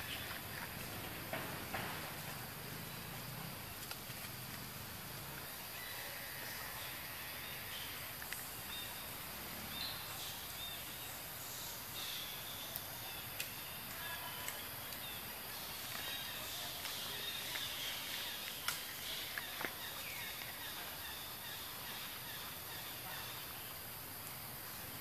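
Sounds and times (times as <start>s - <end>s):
steady forest hiss: 0.0s - 25.0s.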